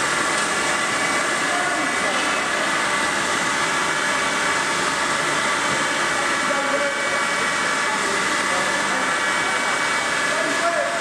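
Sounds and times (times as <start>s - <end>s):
milling machine whirring: 0.0s - 11.0s.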